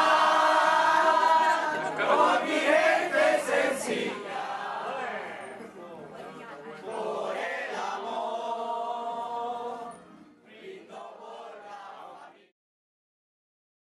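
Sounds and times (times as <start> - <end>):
group singing long held notes: 0.0 - 12.5.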